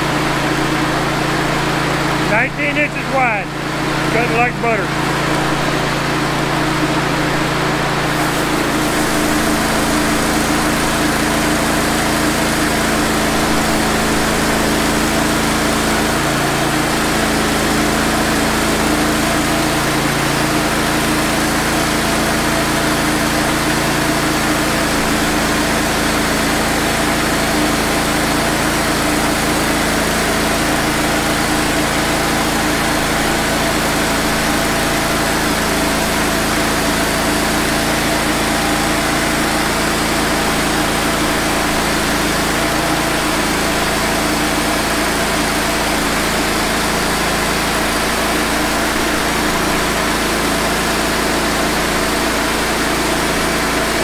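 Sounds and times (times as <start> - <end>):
band sawmill cutting a log: 0.0 - 54.0.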